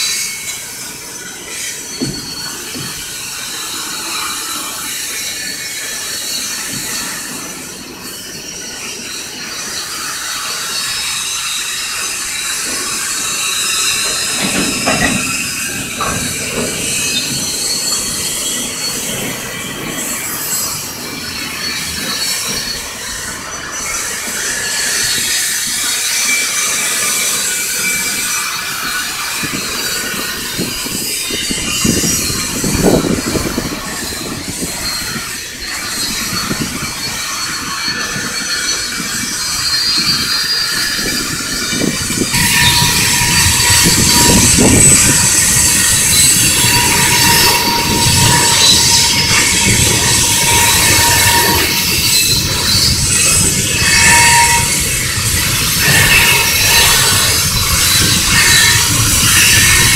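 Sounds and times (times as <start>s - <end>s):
freight train wheels rumbling: 0.0s - 59.9s
high wheel squeal: 0.0s - 59.9s.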